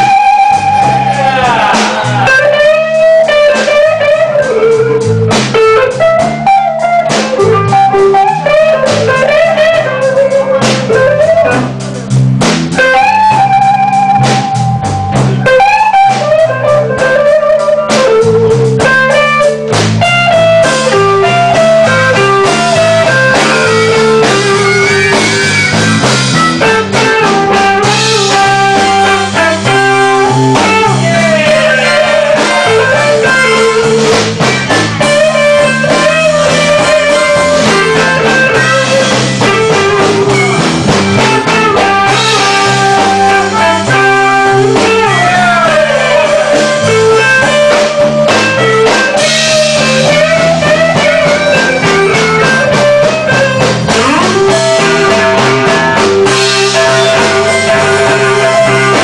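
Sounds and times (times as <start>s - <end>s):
guitar: 0.0s - 59.0s
lead line of bent notes: 0.0s - 59.0s
stepping bass line: 0.0s - 59.0s.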